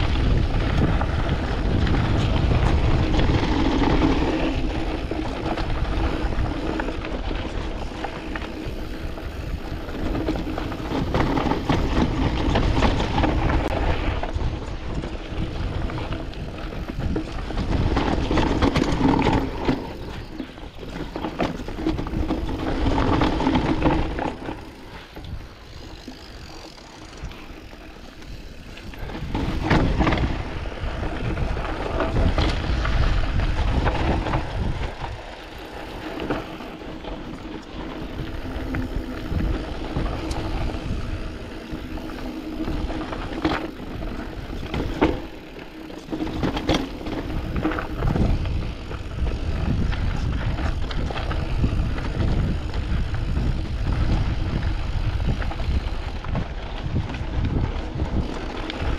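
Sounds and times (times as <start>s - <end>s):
bike chain and frame rattling: 0.0s - 58.9s
bike tyres crunching over gravel: 0.0s - 58.9s
wind rumbling on microphone: 0.0s - 58.9s.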